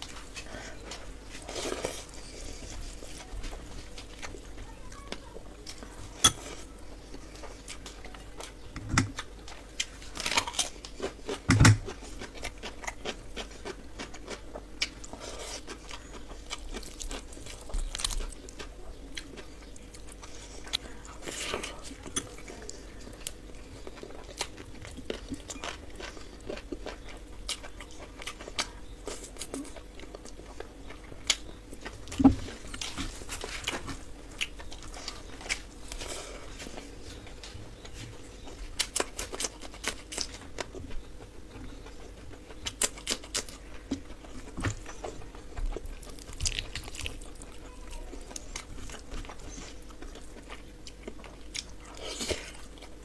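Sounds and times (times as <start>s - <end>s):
wet chewing: 0.0s - 53.0s.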